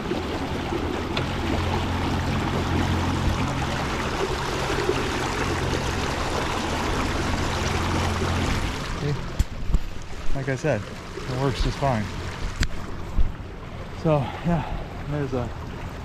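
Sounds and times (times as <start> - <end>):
electric motor low hum: 0.0 - 16.0
water rushing and splashing: 0.0 - 16.0.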